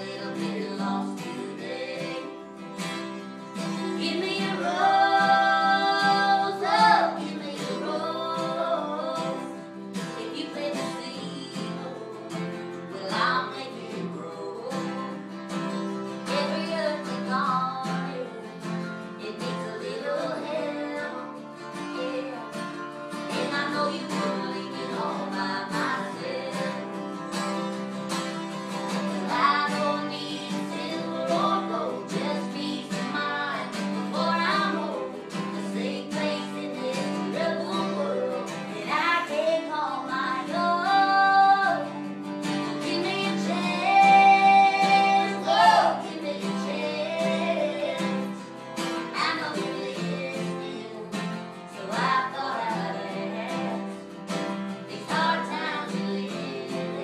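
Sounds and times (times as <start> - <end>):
woman singing: 0.0 - 28.1, 28.7 - 57.0
strummed acoustic guitars: 0.0 - 57.0.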